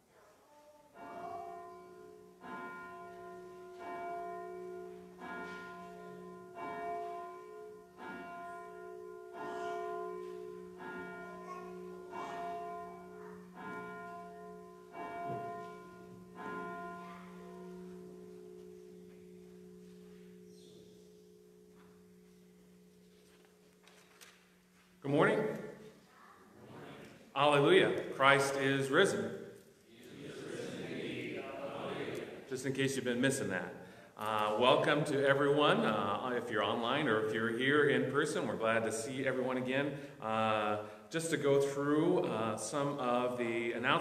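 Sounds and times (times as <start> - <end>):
church bell ringing: 0.9 - 26.0, 27.4 - 29.5, 32.2 - 44.0.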